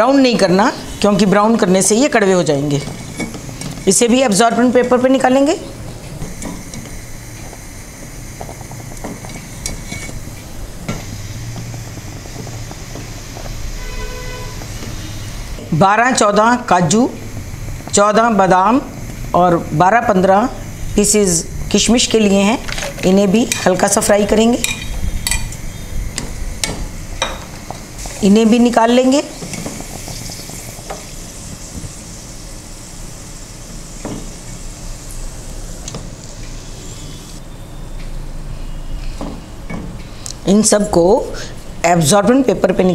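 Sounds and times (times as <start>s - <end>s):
hot oil sizzling: 0.0s - 37.5s.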